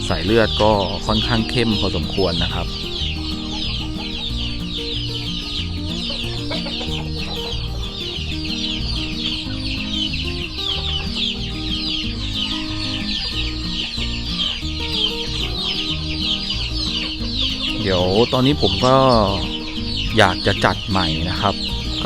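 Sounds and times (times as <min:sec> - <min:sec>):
background music: 0:00.0 - 0:22.0
chickens clucking and chirping: 0:00.0 - 0:22.0.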